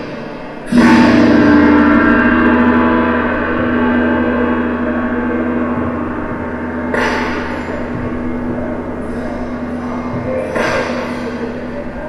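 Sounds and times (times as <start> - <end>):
struck metallic tone ringing: 0.0 - 12.0.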